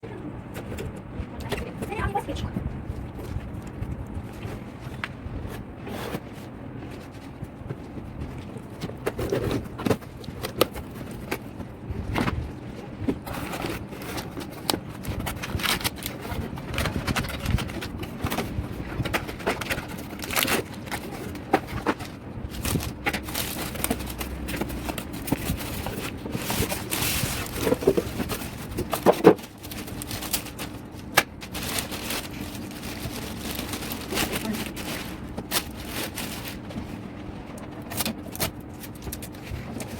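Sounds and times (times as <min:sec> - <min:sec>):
cardboard and plastic crinkling: 0:00.6 - 0:39.9.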